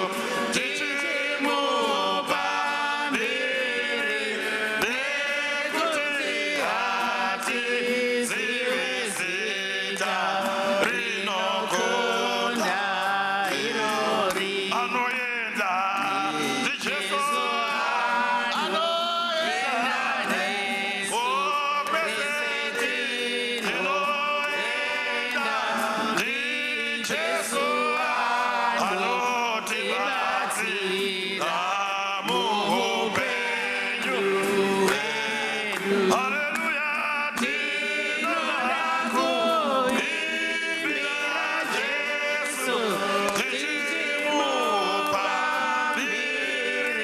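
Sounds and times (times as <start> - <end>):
choir singing a hymn: 0.0 - 47.0
hand clapping: 0.0 - 47.0
man leading the singing: 0.0 - 47.0.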